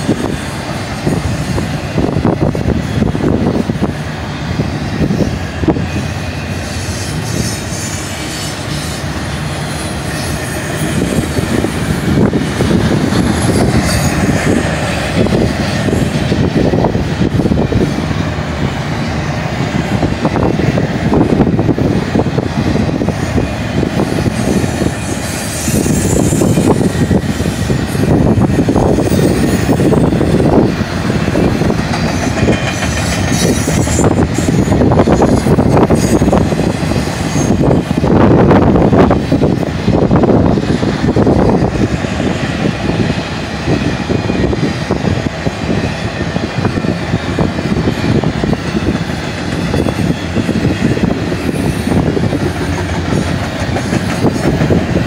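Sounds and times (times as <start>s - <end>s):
freight train passing: 0.0s - 55.0s
rail cars rattling: 0.0s - 55.0s.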